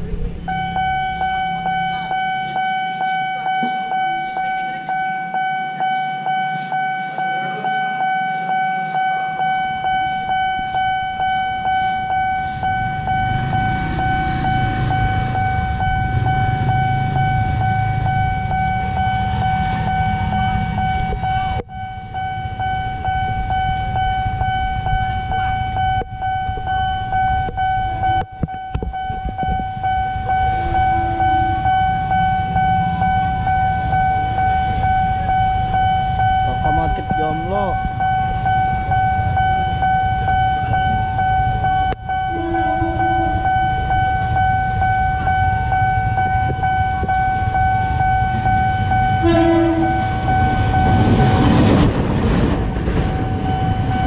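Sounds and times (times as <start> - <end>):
level crossing warning bell: 0.0 - 54.0
low rumble: 9.4 - 54.0.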